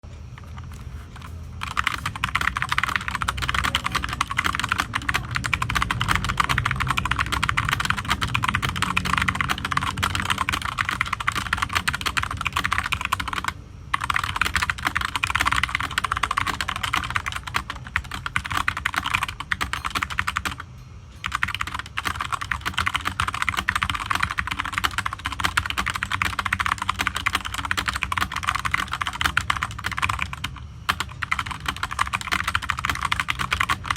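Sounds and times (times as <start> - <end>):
fast typing on mechanical keyboard: 0.4 - 20.6, 21.2 - 33.9.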